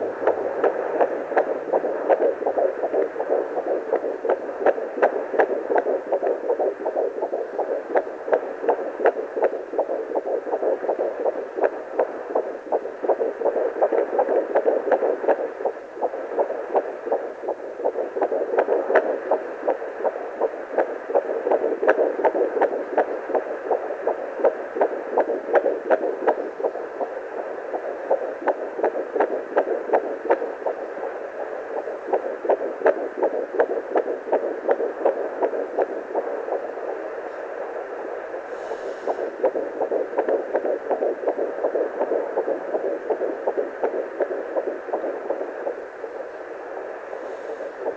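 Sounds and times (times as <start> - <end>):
fast pulsing heartbeat whoosh: 0.0 - 37.0, 39.1 - 45.8
steady hiss: 0.0 - 47.9.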